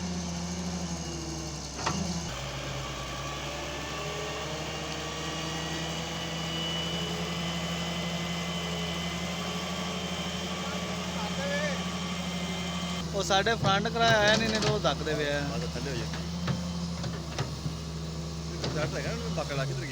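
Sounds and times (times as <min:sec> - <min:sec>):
heavy engine idling: 0:00.0 - 0:19.9.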